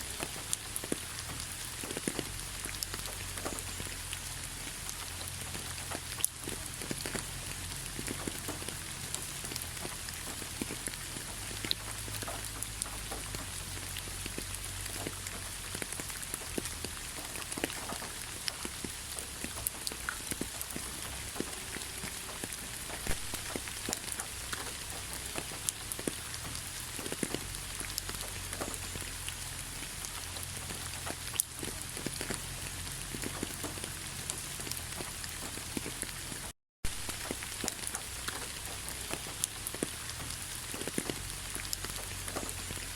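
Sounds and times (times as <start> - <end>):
raindrops ticking: 0.0 - 42.9
steady rainfall: 0.0 - 42.9.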